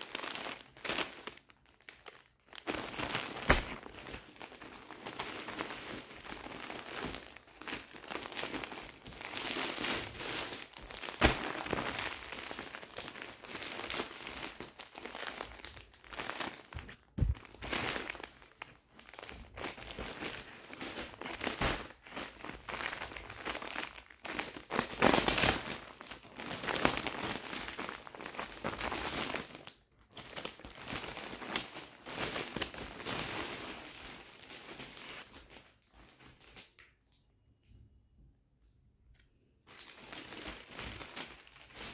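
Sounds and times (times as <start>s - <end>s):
plastic packets crinkling: 0.0s - 36.9s, 39.7s - 41.9s.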